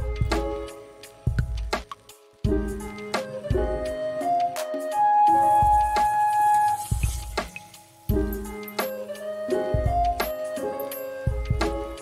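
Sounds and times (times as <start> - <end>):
instrumental music with low bass: 0.0 - 12.0.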